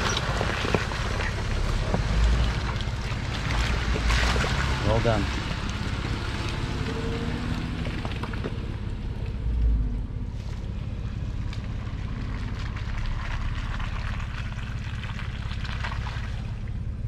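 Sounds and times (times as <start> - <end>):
engine running low: 0.0 - 17.0.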